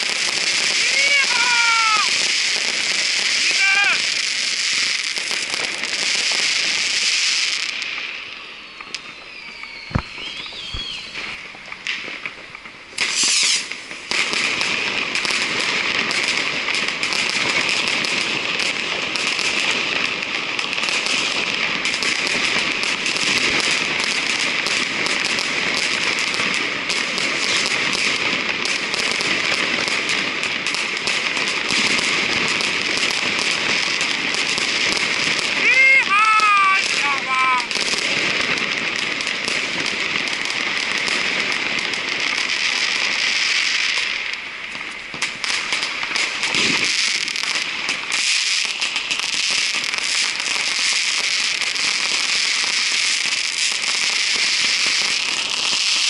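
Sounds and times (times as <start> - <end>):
fireworks crackling and banging: 0.0 - 56.0
whistling fireworks: 0.0 - 56.0.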